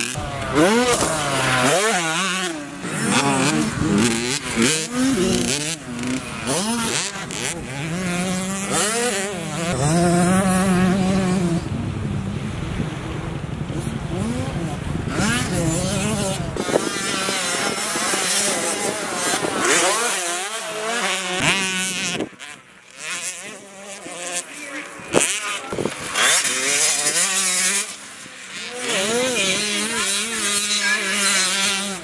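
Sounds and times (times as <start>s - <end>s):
motocross bikes racing past: 0.0s - 32.0s.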